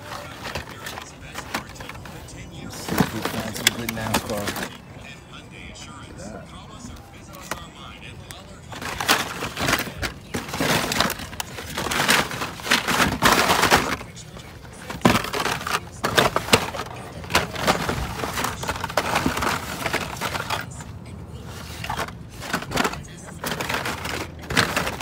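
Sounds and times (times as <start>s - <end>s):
toy cars rustling and clattering: 0.0s - 25.0s.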